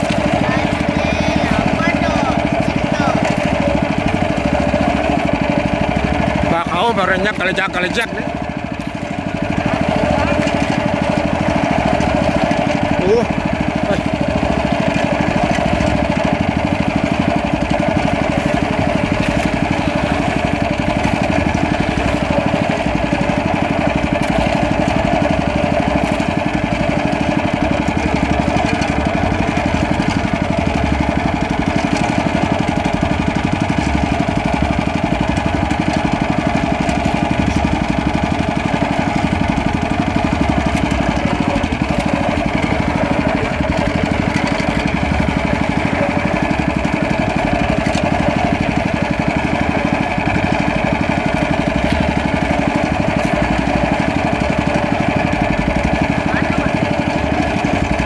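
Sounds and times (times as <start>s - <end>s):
small boat engine running: 0.0s - 58.0s.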